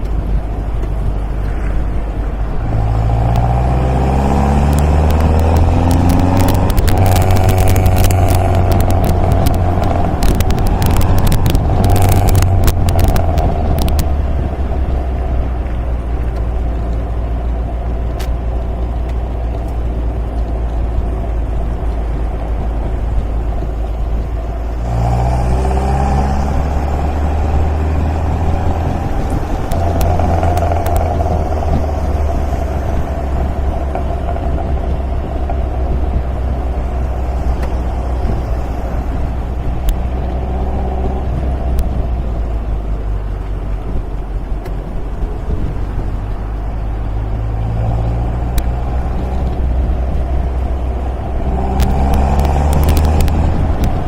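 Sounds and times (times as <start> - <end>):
sports car engine running: 0.0 - 54.0.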